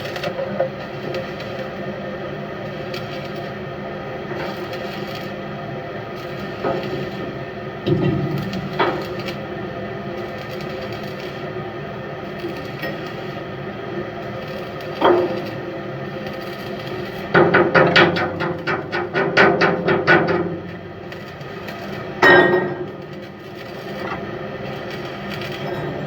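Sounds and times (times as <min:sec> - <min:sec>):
machinery hum: 0:00.4 - 0:26.0.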